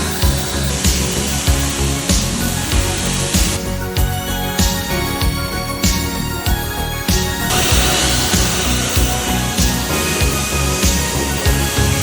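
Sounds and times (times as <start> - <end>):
background music with beat: 0.0 - 12.0
broad hiss: 0.0 - 12.0.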